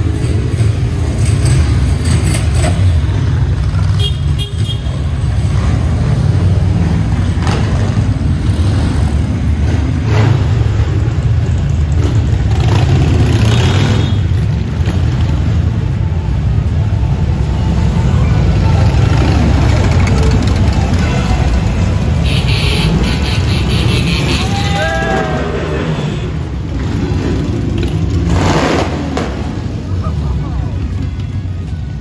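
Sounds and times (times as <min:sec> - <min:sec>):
motorcycles riding slowly past: 0:05.0 - 0:13.5, 0:14.2 - 0:32.0.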